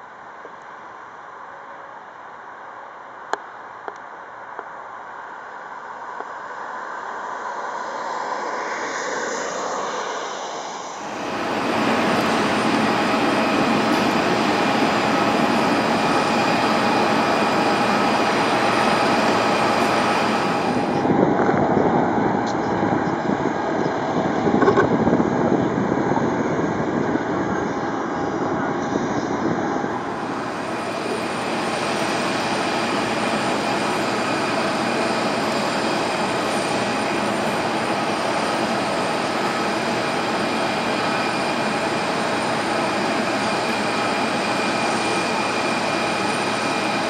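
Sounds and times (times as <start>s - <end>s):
propeller engines running: 7.7s - 47.0s.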